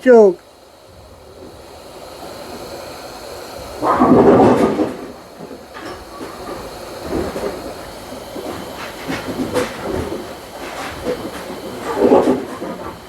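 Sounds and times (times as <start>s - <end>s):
hot-air station hissing: 0.0s - 13.0s.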